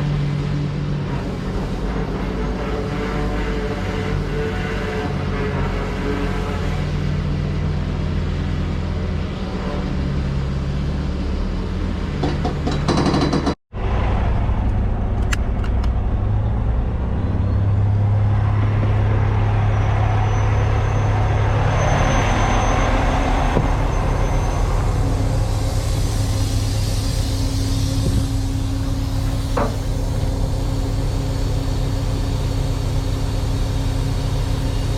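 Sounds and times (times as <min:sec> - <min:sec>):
heavy diesel engine droning: 0:00.0 - 0:34.9.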